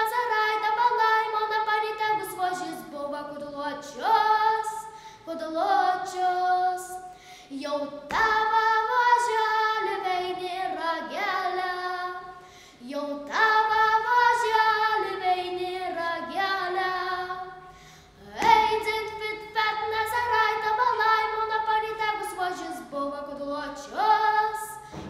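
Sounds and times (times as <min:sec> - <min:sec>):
girl singing unaccompanied: 0:00.0 - 0:24.9.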